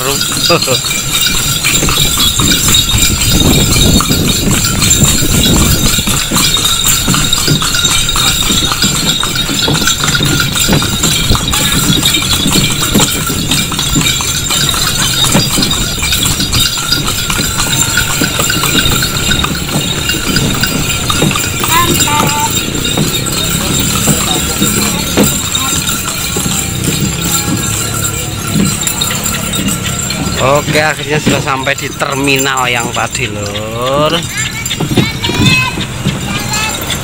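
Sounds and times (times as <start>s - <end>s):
horse hooves clip-clopping on asphalt: 0.0s - 37.0s.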